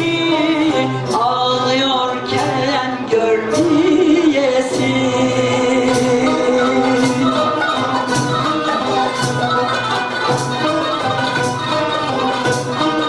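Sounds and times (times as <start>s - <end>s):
classical ensemble wavering melody: 0.0s - 13.0s
percussion beat: 0.0s - 13.0s.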